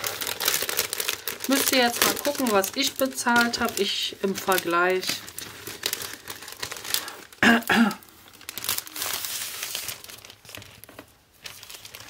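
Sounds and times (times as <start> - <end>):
card and plastic sleeve rustling: 0.0 - 7.4, 8.2 - 12.0.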